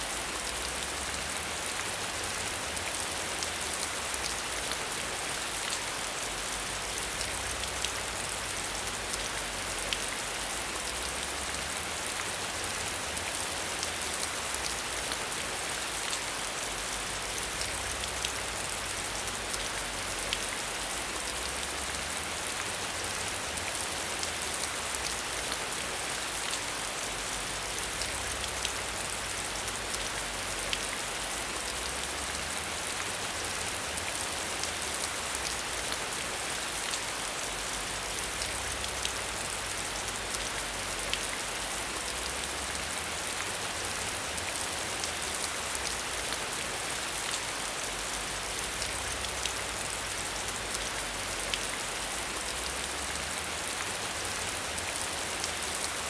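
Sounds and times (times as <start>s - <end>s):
rain behind a window: 0.0s - 56.0s.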